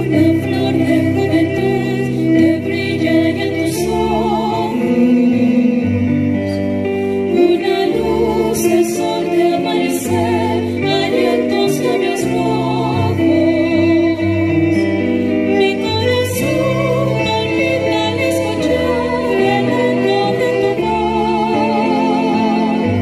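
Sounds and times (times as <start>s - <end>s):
piano: 0.0s - 23.0s
violin: 0.0s - 23.0s
women singing with vibrato: 0.0s - 23.0s.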